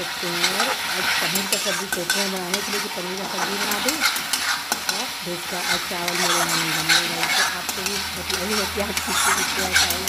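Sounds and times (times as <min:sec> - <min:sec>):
masala sizzling in a pan: 0:00.0 - 0:10.0
metal spatula scraping pan: 0:00.0 - 0:10.0.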